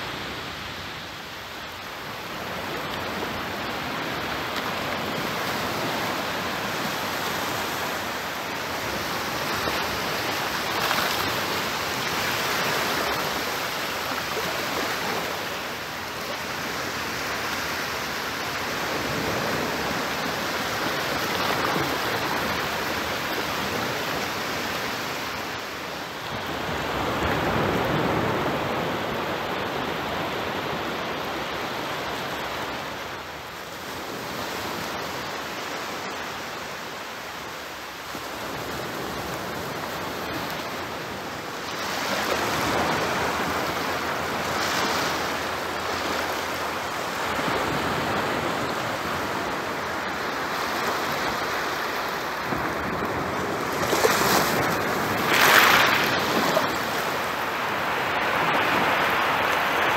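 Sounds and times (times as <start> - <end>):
waves washing up a beach: 0.0 - 59.9.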